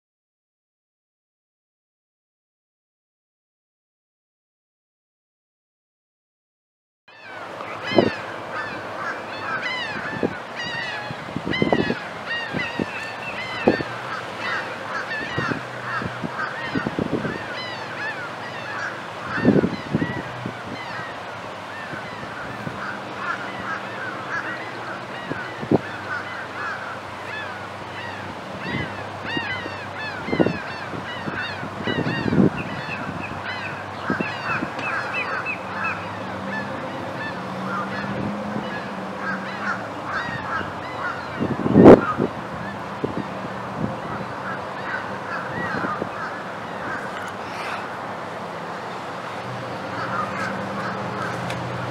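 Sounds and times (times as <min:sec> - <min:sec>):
flock of birds calling: 0:07.1 - 0:51.9.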